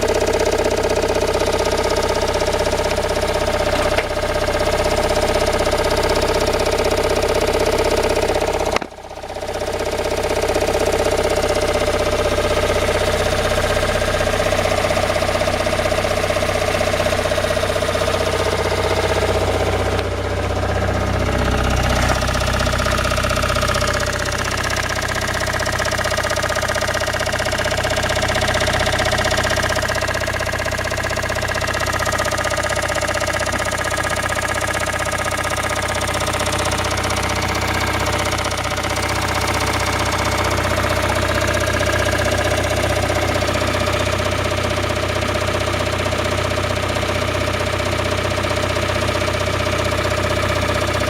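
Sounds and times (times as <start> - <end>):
engine running with a knock: 0.0 - 51.0.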